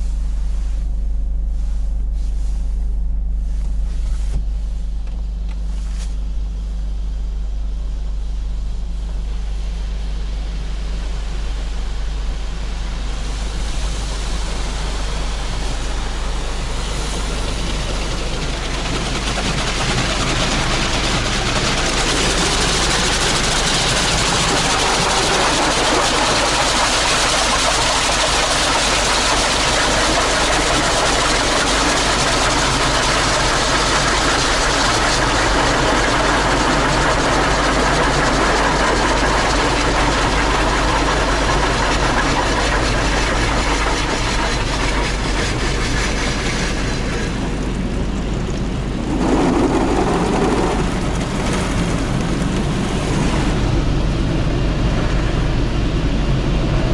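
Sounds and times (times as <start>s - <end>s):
car wash spraying water: 0.0s - 56.9s
low machinery rumble: 0.0s - 56.9s.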